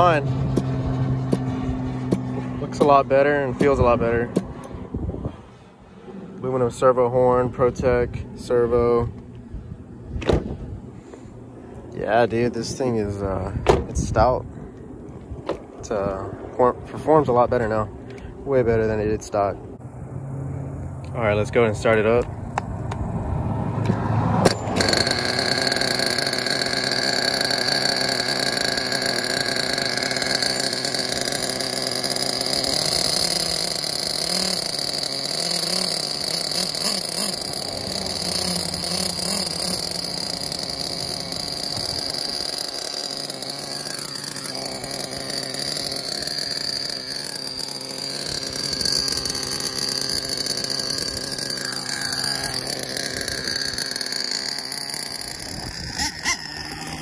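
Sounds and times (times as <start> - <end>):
nitro engine idling: 0.0 - 57.0.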